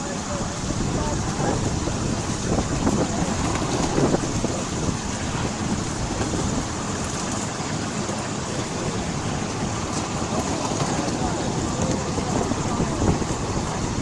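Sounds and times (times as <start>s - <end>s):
miniature train rumbling: 0.0s - 14.0s.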